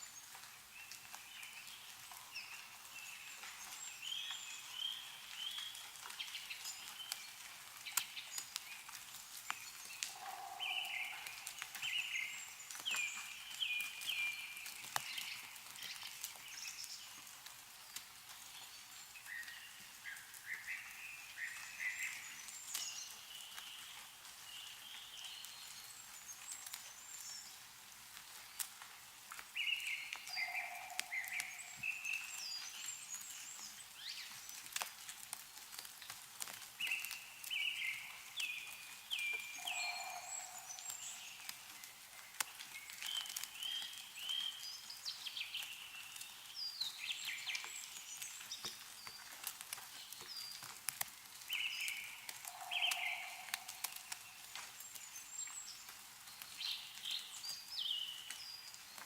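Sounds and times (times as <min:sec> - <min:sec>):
meltwater dripping from trees: 0:00.0 - 0:59.0
songbirds chirping: 0:00.0 - 0:59.0.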